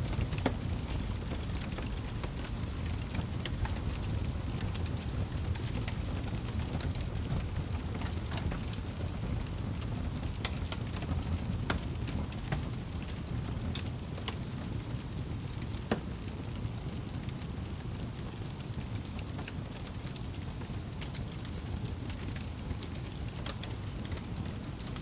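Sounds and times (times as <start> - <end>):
fire snaps and pops: 0.0 - 25.0
firewood crackling: 0.0 - 25.0.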